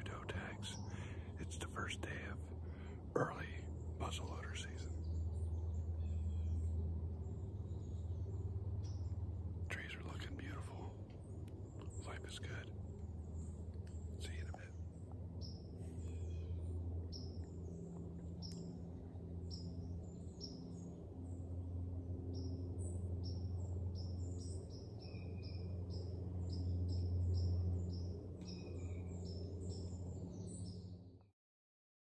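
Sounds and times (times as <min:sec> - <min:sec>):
small birds chirping: 0:00.0 - 0:31.1
steady low hum: 0:00.0 - 0:31.3.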